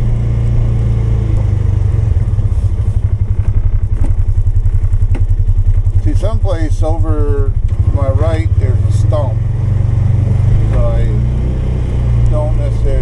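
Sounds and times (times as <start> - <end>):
engine chugging under load: 0.0 - 13.0.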